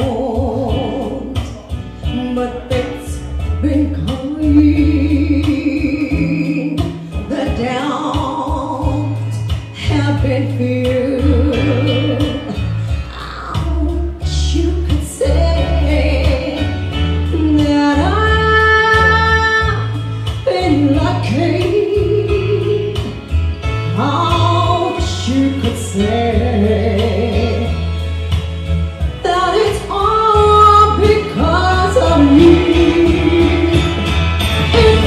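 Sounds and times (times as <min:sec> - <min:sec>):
woman singing into a microphone: 0:00.0 - 0:27.9, 0:29.2 - 0:35.0
backing music with bass line: 0:00.0 - 0:35.0.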